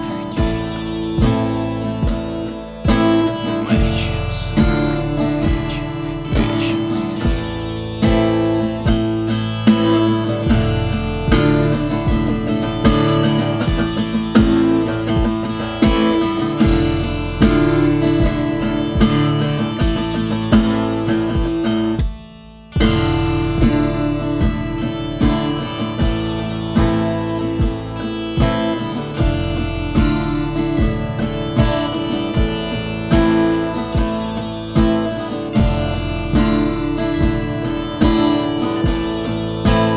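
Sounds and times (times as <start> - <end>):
regular beat: 0.0 - 39.9
strummed guitar: 0.0 - 39.9.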